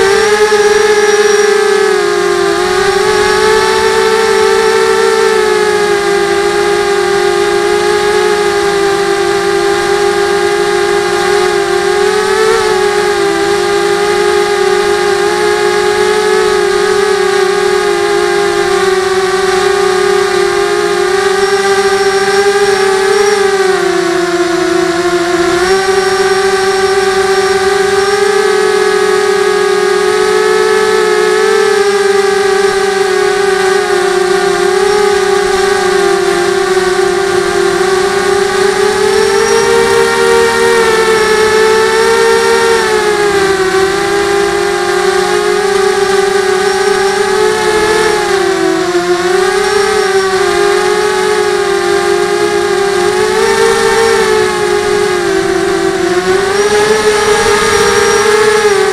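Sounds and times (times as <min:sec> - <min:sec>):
electric motor and propeller whine: 0:00.0 - 0:58.9.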